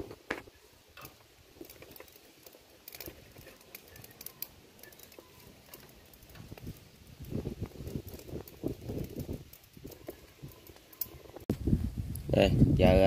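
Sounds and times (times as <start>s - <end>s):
soup simmering with ticks and pops: 0.9s - 11.5s.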